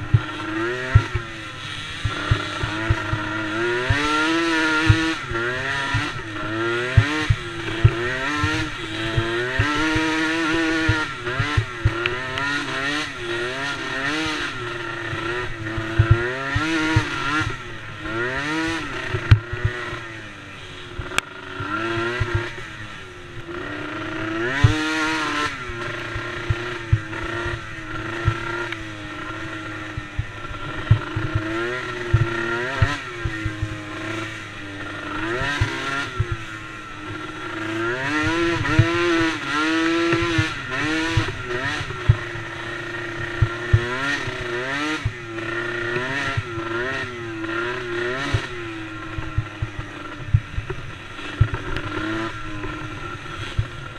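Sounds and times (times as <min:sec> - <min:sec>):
small atv engines racing: 0:00.0 - 0:53.9.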